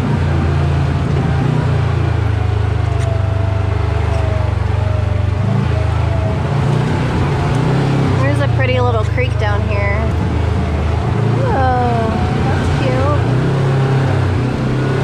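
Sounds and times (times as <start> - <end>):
utility vehicle engine droning: 0.0 - 15.0.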